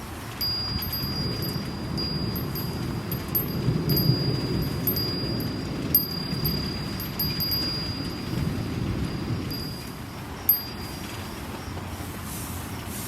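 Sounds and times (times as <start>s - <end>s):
rain rushing: 0.0s - 13.0s
wind chime ringing: 0.4s - 11.8s.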